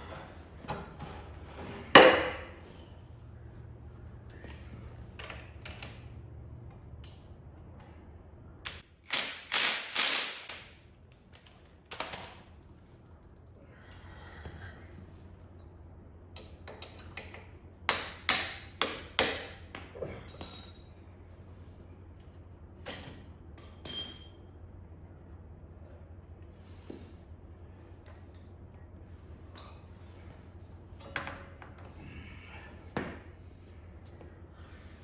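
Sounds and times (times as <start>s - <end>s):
low steady hum: 0.0s - 8.8s, 10.9s - 35.0s.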